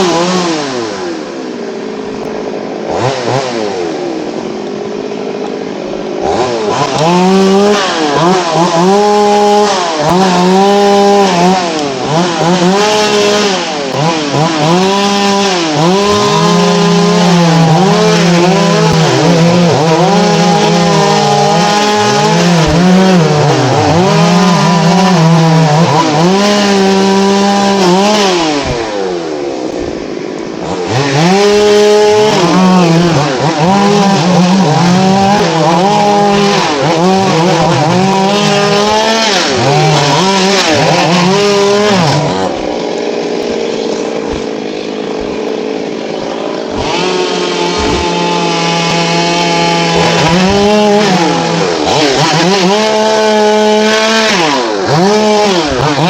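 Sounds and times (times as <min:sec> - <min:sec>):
chainsaw cutting into tree: 0:00.0 - 0:56.0.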